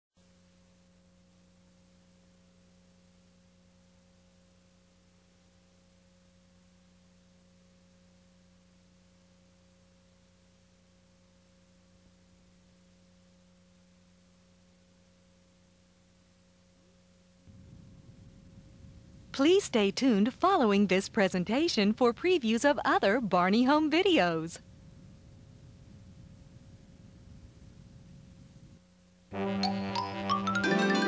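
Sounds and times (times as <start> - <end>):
tape playback hum and hiss: 0.2 - 31.0.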